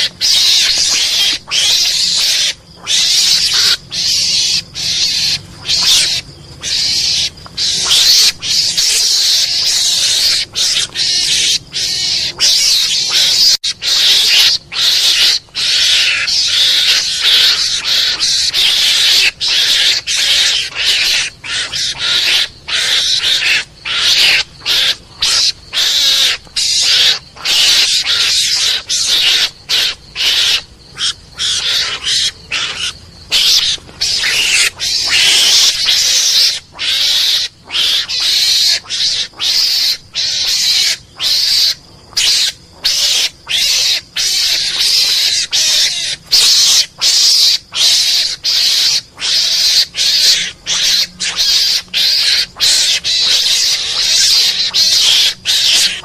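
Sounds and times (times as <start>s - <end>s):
harsh hissing animal calls: 0.0s - 56.0s.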